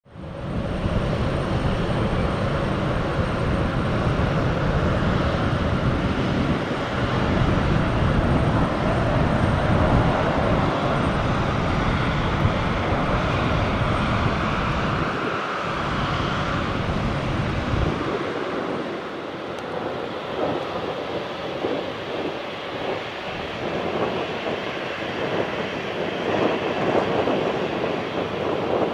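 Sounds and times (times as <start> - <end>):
jet engines running: 0.0 - 28.9.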